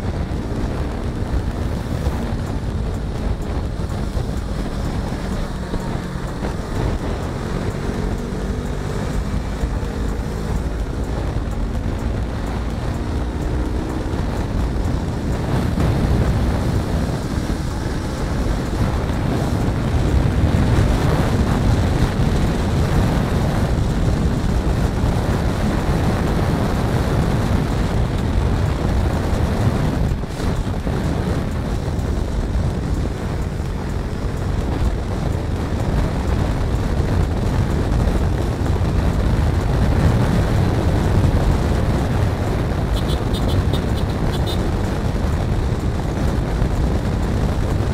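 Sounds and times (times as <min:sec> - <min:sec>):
motorcycle engine: 0:00.0 - 0:47.9
wind rushing over microphone: 0:00.0 - 0:47.9.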